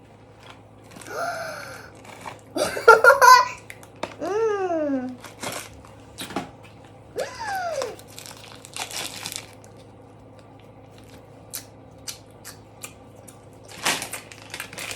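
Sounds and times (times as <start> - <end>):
crinkling and crunching: 0.3 - 2.9, 5.0 - 14.9.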